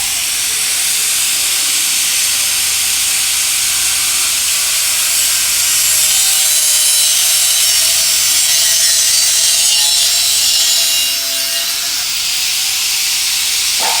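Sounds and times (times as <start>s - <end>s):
power saw cutting steel: 0.0s - 14.0s.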